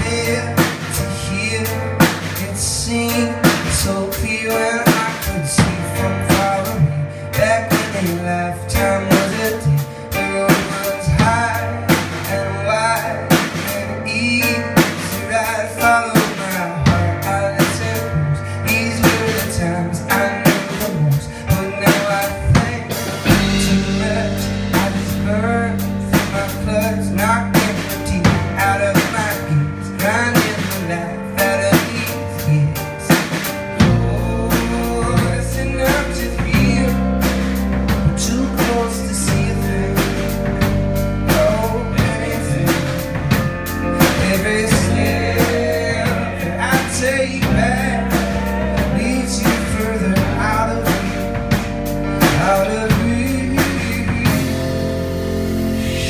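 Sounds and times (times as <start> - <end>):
drum kit beat: 0.0 - 56.0
electric keyboard: 0.0 - 56.0
low bass notes: 0.0 - 56.0.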